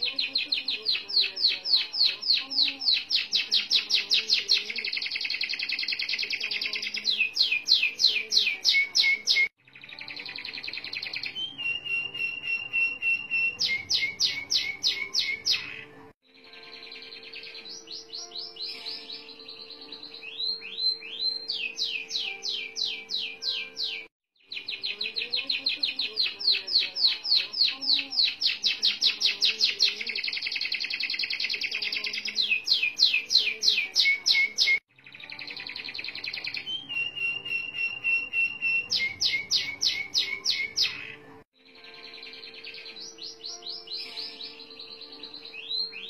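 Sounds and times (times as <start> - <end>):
canary singing trills: 0.0 - 46.0.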